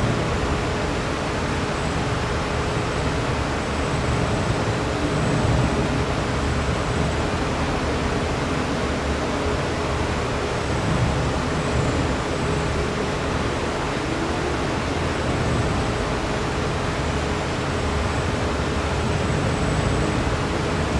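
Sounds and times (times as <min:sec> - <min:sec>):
constant low hum: 0:00.0 - 0:20.9
electric fans rushing: 0:00.0 - 0:20.9.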